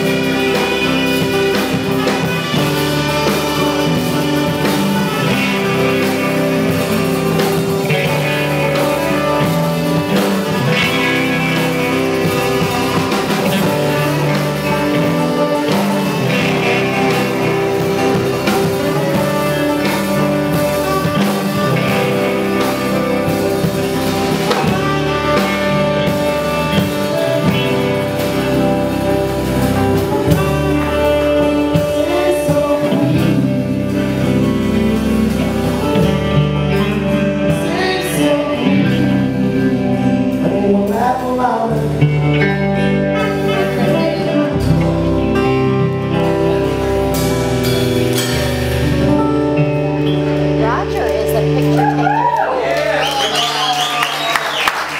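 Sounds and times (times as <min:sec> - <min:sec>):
acoustic guitar: 0:00.0 - 0:54.9
drum kit: 0:00.0 - 0:54.9
electric bass: 0:00.0 - 0:54.9
electric guitar: 0:00.0 - 0:54.9
saxophone: 0:00.0 - 0:54.9.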